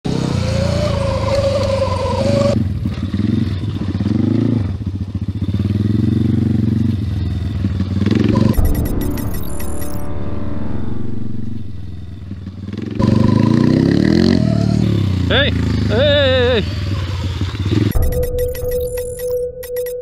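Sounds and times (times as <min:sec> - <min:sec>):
dirt bike engine revving: 0:00.1 - 0:08.9, 0:09.8 - 0:18.1.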